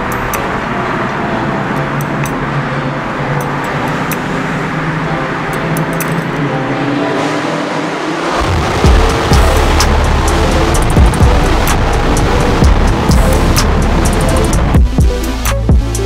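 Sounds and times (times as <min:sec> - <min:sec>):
car engine hum: 0:00.0 - 0:16.0
road and traffic noise: 0:00.0 - 0:16.0.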